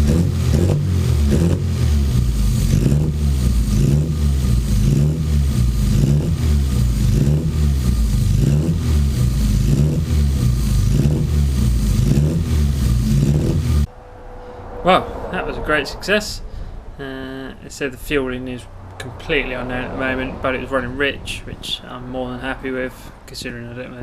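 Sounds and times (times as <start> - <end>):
car engine revving: 0.0 - 22.8.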